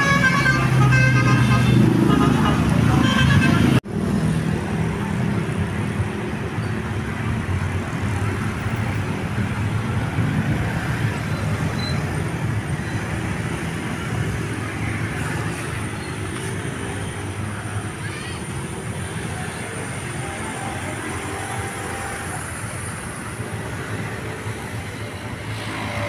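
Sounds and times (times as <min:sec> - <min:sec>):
bus engine humming: 0:00.0 - 0:26.0.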